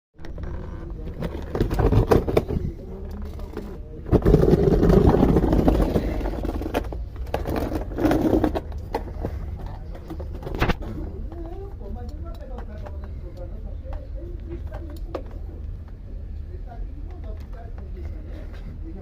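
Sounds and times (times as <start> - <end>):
steady low hum: 0.2 - 19.0.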